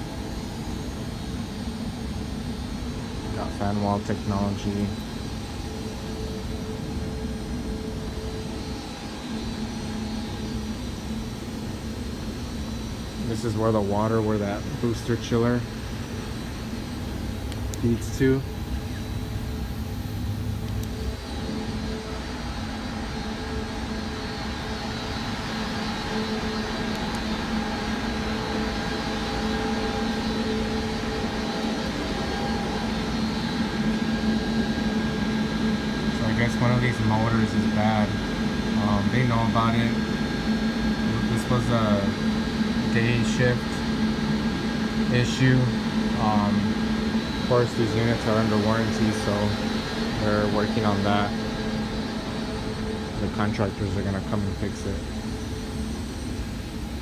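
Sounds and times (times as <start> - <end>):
air handler fans rushing: 0.0 - 57.0
higher hum: 0.0 - 57.0.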